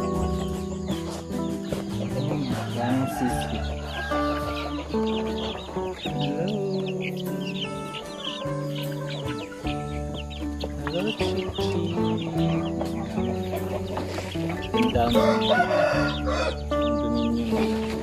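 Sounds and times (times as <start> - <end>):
background music with low bass: 0.0 - 18.0
chickens clucking: 0.0 - 18.0.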